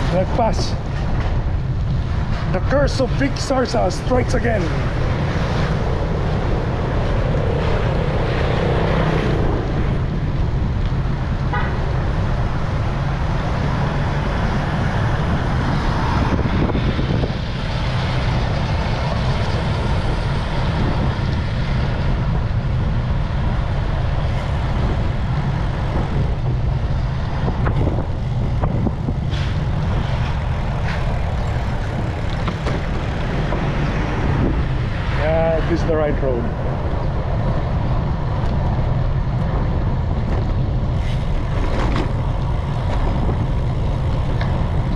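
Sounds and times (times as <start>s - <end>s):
road noise: 0.0s - 44.9s
traffic: 0.0s - 44.9s
wind rush on microphone: 0.0s - 44.9s.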